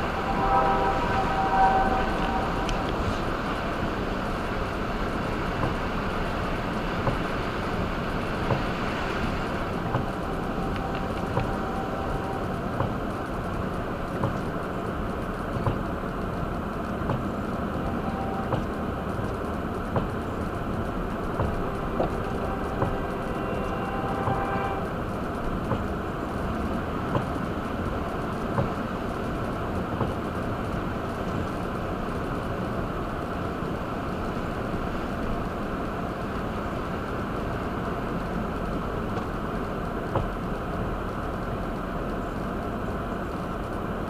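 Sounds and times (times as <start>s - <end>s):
road and tyre noise: 0.0s - 44.0s.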